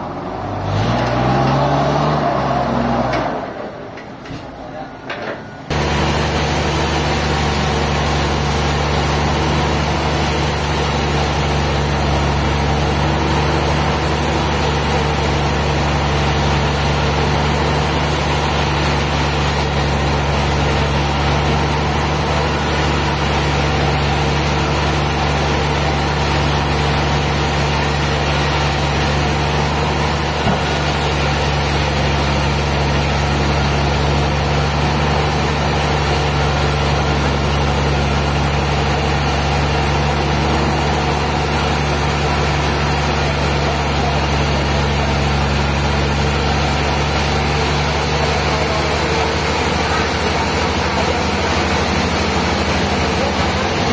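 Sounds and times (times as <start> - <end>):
engine running steadily: 0.0 - 53.9.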